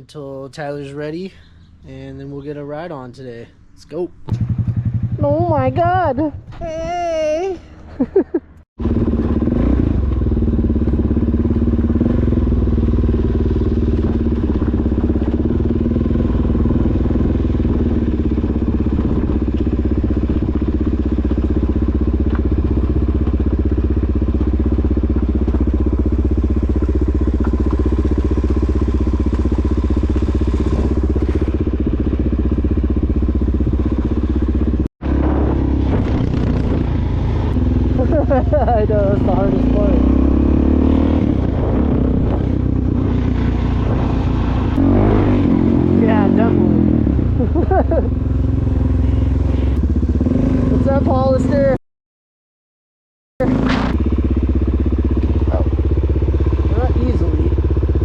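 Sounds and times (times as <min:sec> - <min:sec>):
motorcycle engine running: 0:04.2 - 0:07.6, 0:08.8 - 0:51.8, 0:53.4 - 0:58.0.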